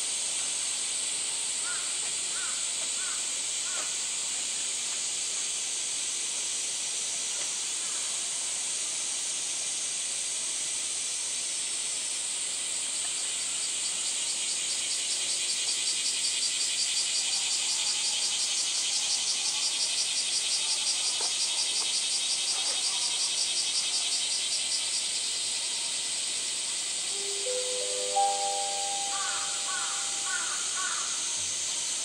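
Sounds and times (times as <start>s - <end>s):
cicadas droning: 0.0s - 32.0s.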